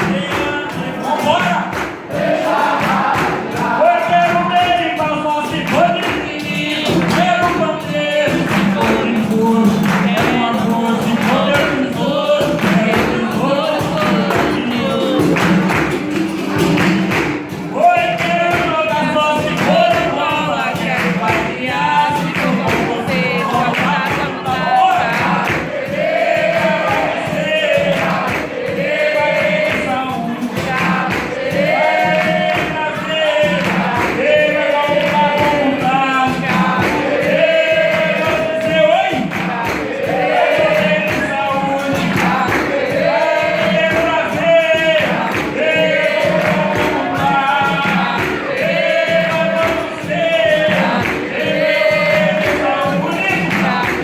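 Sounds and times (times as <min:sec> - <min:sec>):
group singing: 0:00.0 - 0:54.0
hand claps: 0:00.0 - 0:54.0
steady percussion: 0:00.0 - 0:54.0.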